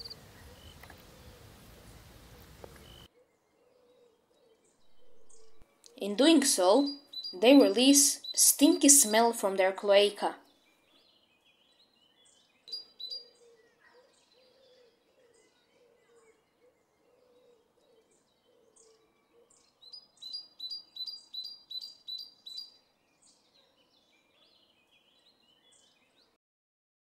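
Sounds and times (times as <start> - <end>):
small birds chirping: 0.0 - 26.4.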